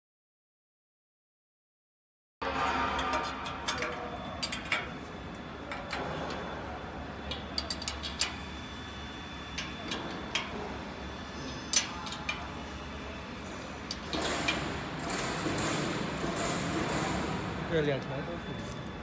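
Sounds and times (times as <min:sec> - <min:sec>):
steady low hum: 0:02.4 - 0:19.0.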